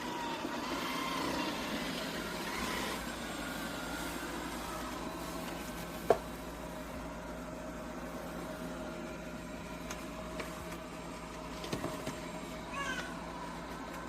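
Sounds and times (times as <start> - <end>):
robot vacuum motor hum: 0.0 - 14.0.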